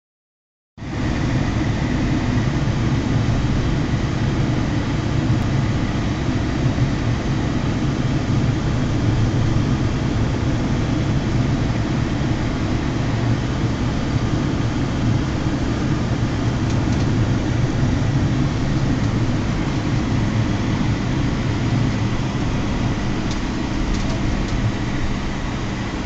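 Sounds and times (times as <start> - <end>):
vehicle engine and tyres rumbling: 0.8 - 26.0.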